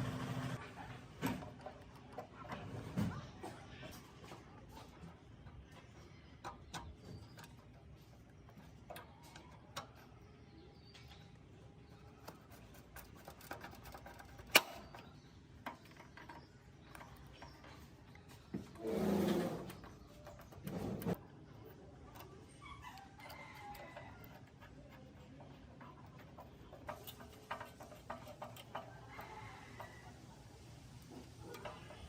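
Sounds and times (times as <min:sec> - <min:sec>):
small hard parts clicking: 0:05.1 - 0:32.0.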